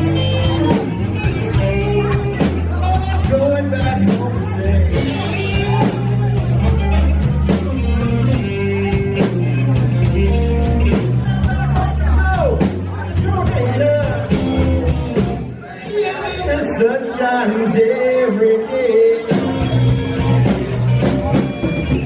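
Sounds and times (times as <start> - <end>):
electric guitar lead: 0.0 - 16.4, 18.6 - 22.0
live blues band playing: 0.0 - 22.0.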